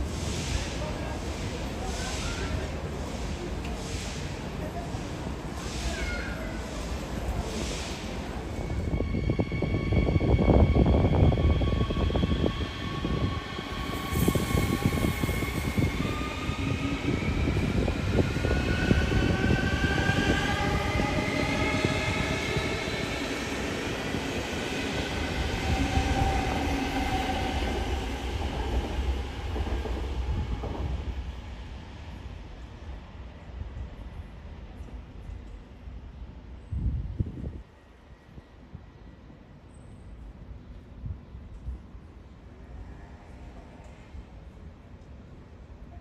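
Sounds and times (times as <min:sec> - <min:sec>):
train wheels rumbling on track: 0:00.0 - 0:37.7.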